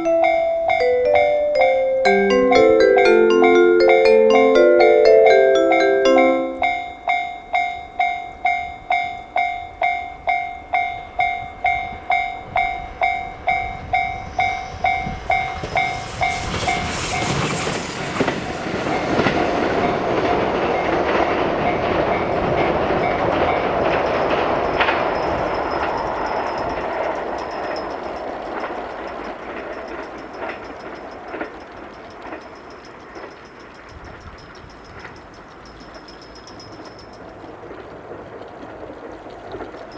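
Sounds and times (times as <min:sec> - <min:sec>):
level crossing warning bell ringing: 0:00.0 - 0:16.4, 0:18.8 - 0:37.8
train rumble and wheel clatter: 0:00.0 - 0:39.9.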